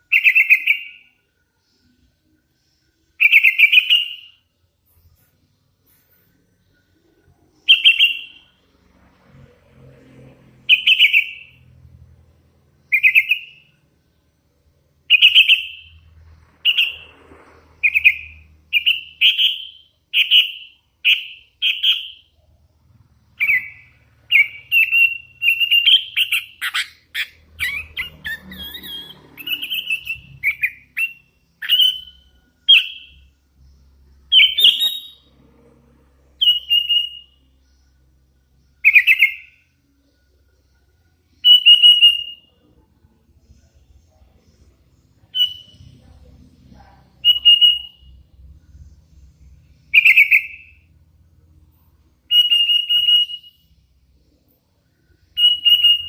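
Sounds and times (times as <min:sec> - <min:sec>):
bird chirping: 0:00.0 - 0:14.2, 0:15.0 - 0:56.0.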